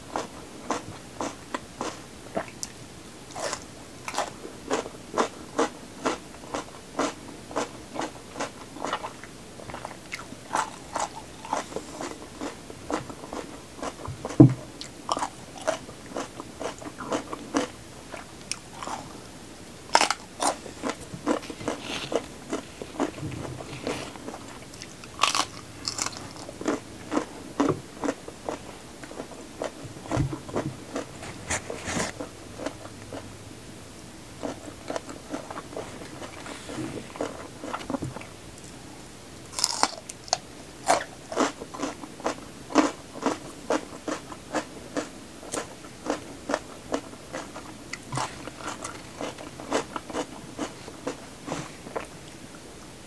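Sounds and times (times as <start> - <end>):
crunching raw vegetables: 0.2 - 19.2, 19.9 - 33.2, 39.5 - 52.1.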